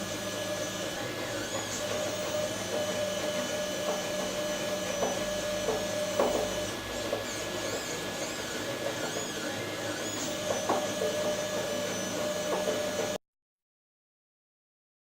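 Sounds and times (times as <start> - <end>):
stepper motors whining: 0.0 - 13.2.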